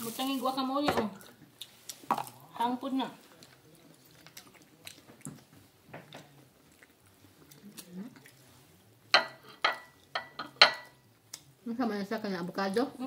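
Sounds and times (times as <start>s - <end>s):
faint eating sounds: 0.0s - 13.0s.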